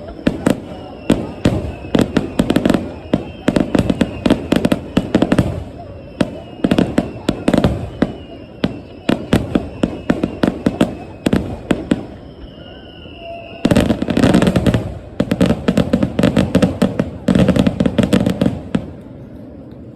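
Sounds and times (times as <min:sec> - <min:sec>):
fireworks bursting with crackle: 0:00.0 - 0:19.9.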